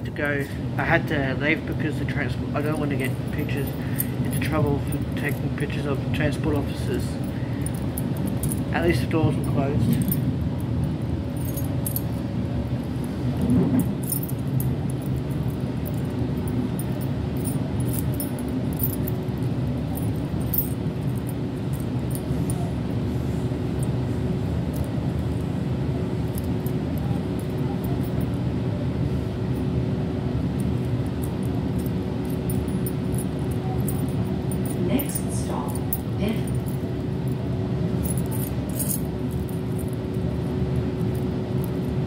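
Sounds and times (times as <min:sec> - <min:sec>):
faint constant hum: 0:00.0 - 0:42.0.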